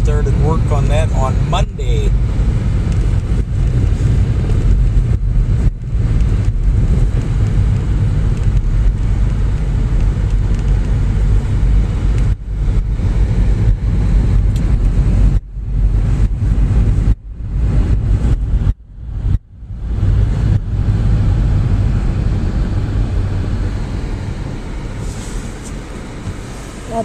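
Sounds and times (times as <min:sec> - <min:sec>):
road and engine rumble in car: 0:00.0 - 0:27.0.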